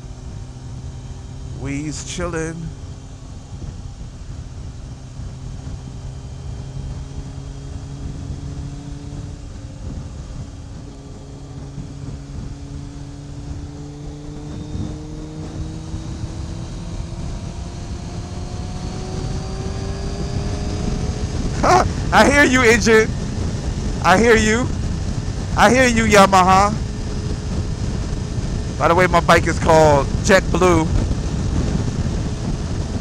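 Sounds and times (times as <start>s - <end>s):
motorcycle engine running: 0.0s - 33.0s
wind and road noise: 0.0s - 33.0s.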